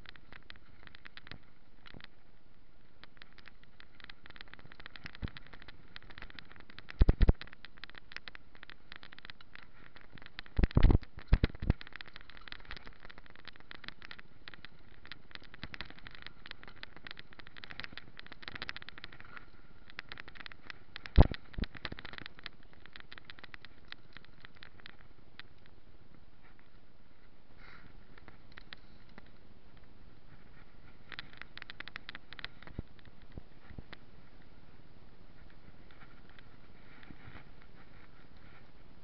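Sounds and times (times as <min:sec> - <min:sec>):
bike tyres rattling on dirt trail: 0:00.0 - 0:39.0.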